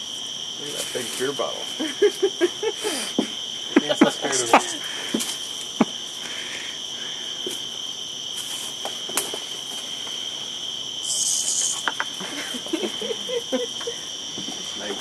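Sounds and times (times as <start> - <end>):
cicada buzzing: 0.0 - 15.0
insect chorus: 0.0 - 15.0.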